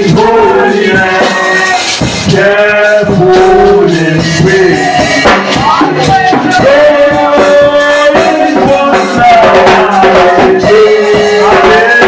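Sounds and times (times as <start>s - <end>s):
band accompaniment with percussion: 0.0s - 12.0s
worship song singing: 0.0s - 12.0s.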